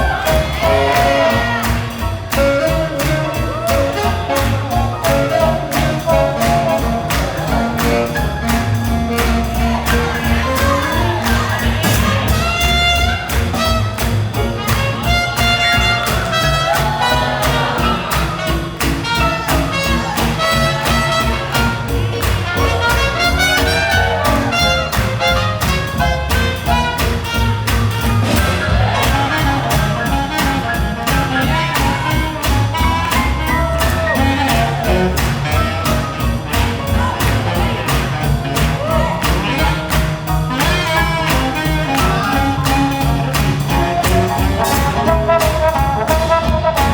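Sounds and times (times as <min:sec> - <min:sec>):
swing jazz band playing: 0:00.0 - 0:46.9.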